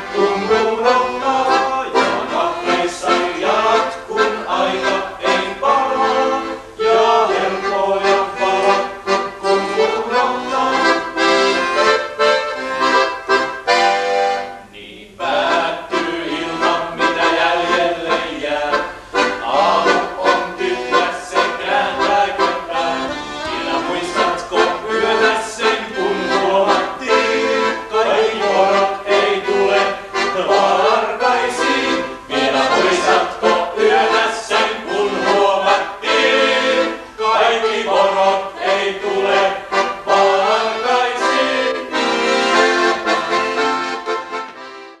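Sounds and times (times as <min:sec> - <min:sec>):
accordion playing lively tune: 0:00.0 - 0:45.0.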